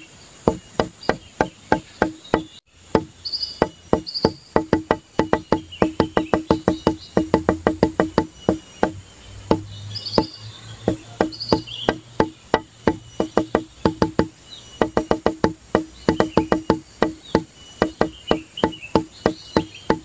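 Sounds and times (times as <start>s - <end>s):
wood-block clicks: 0.5s - 20.0s.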